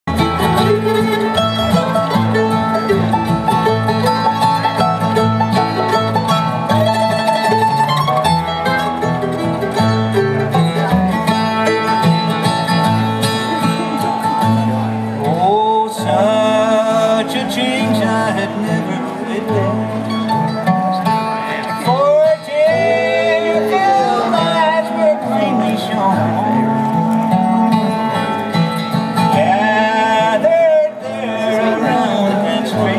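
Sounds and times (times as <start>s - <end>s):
string band playing bluegrass: 0.0s - 32.9s.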